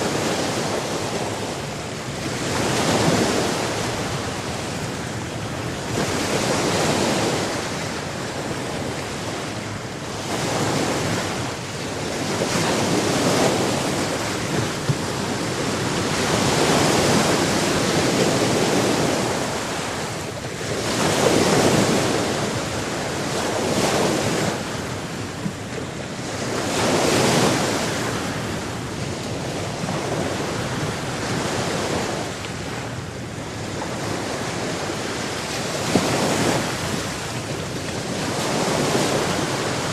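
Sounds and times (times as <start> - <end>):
sea waves breaking on shore: 0.0 - 39.9
wind on microphone: 0.0 - 39.9.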